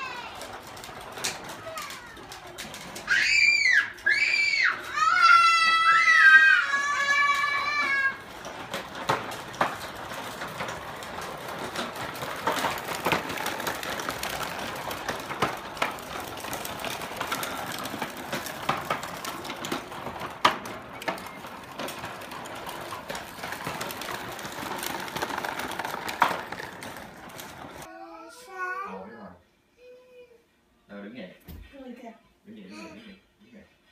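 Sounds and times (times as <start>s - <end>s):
plastic wheels rattling on pavers: 0.0s - 28.0s.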